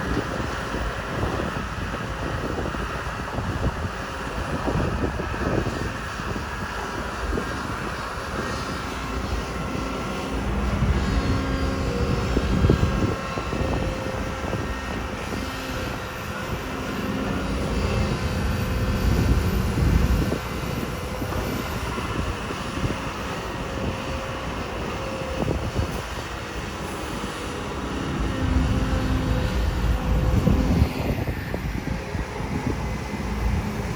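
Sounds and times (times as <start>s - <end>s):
excavator diesel engine: 0.1s - 33.9s.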